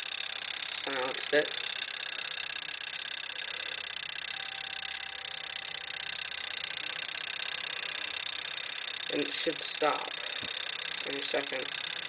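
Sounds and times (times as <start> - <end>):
rapid mechanical ticking whir: 0.0 - 12.0.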